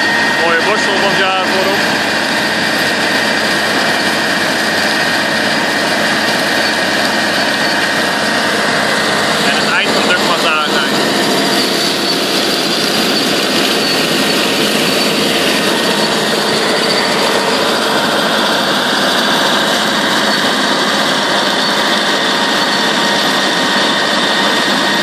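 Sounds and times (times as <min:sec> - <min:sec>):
harvester engine and machinery: 0:00.0 - 0:25.0
steady whine: 0:00.0 - 0:25.0.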